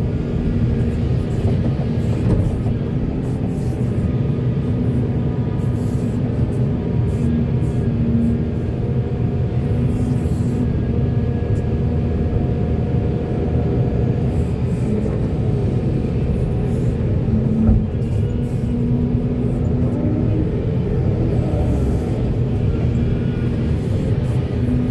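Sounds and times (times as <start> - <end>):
diesel machinery rumbling: 0.0 - 24.9.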